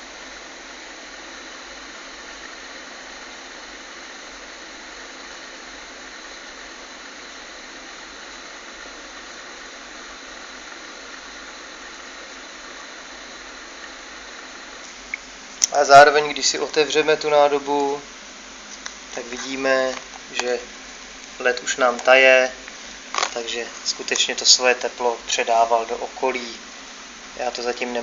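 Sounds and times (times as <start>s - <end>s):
cooling fan whooshing: 0.0s - 28.0s.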